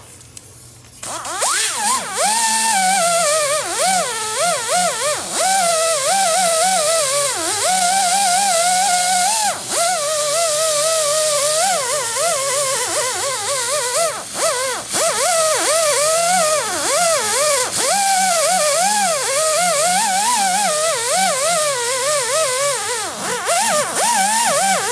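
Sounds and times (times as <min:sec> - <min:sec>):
power tool cutting rubber: 0:01.0 - 0:24.9.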